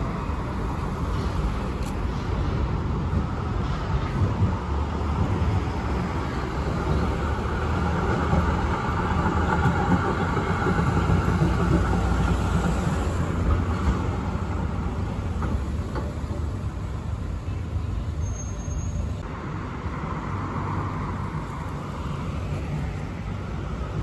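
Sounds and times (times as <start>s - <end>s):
road traffic: 0.0s - 24.0s
tram rumbling on rails: 0.0s - 24.0s.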